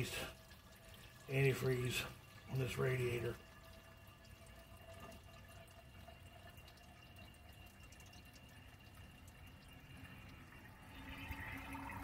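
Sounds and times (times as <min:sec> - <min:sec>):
water dripping: 0:00.0 - 0:12.0
water trickling into radiator: 0:00.0 - 0:12.0.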